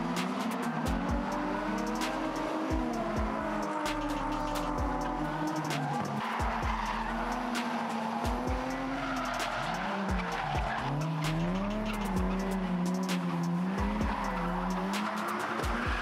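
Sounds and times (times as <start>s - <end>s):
car engines revving: 0.0s - 16.0s
tyres squealing and skidding: 0.0s - 16.0s.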